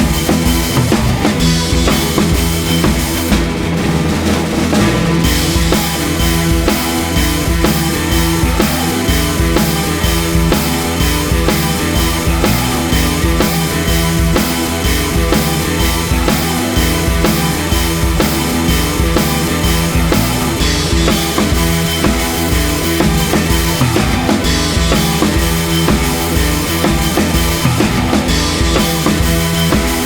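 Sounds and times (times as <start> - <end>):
instrumental music with drums and guitar: 0.0 - 30.0.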